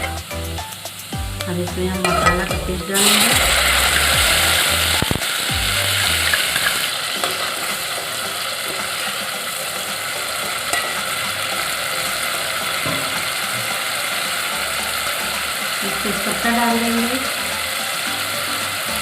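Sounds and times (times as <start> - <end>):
spice paste sizzling in oil: 0.0 - 19.0.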